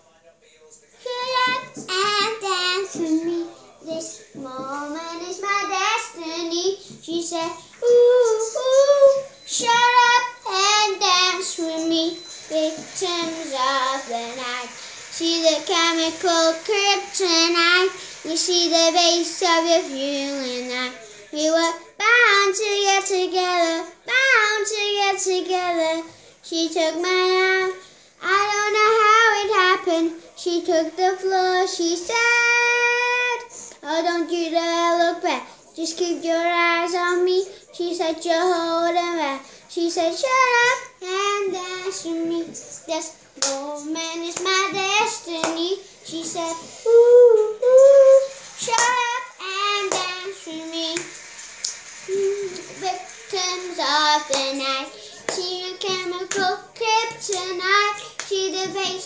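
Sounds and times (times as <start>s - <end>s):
girl singing: 1.0s - 51.2s, 52.1s - 59.0s.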